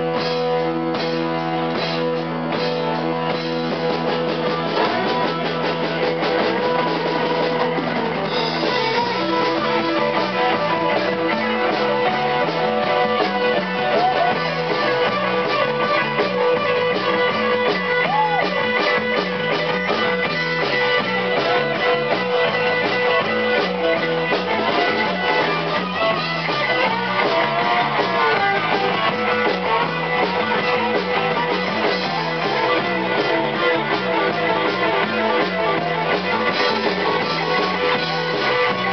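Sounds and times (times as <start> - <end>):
bent electric guitar notes: 0.0 - 38.9
rock band playing: 0.0 - 38.9.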